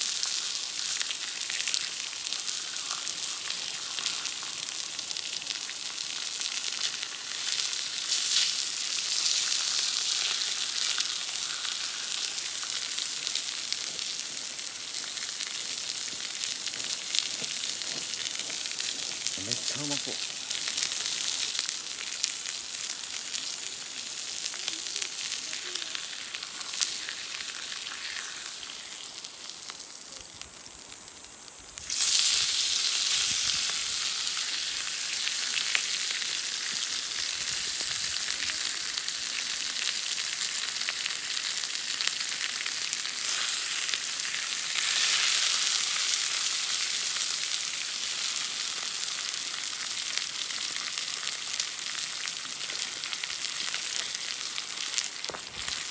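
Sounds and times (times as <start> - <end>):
steak sizzling over fire: 0.0 - 55.9.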